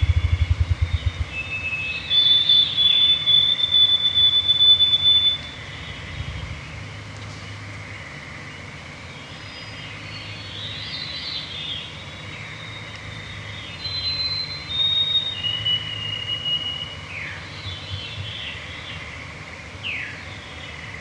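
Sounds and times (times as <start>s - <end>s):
birdsong: 0.0s - 6.6s, 9.0s - 21.0s.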